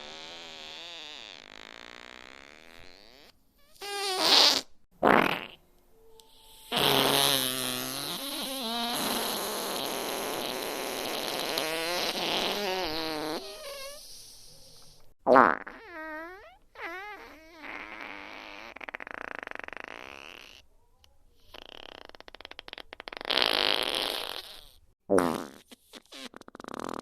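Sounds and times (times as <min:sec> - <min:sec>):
fart sound effects: 0:00.0 - 0:05.6, 0:06.7 - 0:14.0, 0:15.3 - 0:20.6, 0:21.5 - 0:27.0.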